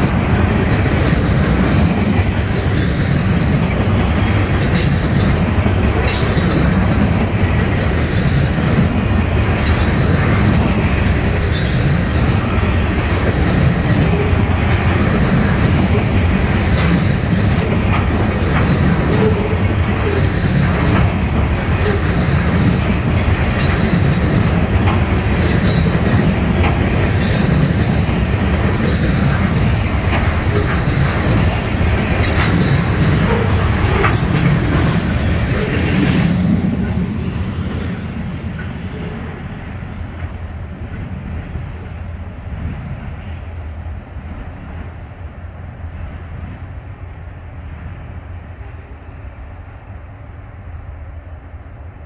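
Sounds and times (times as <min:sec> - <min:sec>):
freight train wheels rumbling on rail: 0:00.0 - 0:52.0.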